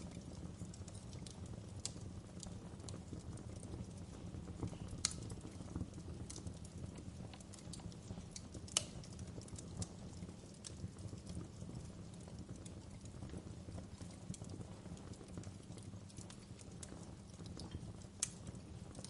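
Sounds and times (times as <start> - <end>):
rain: 0.0 - 19.0
wood fire crackling: 0.0 - 19.0.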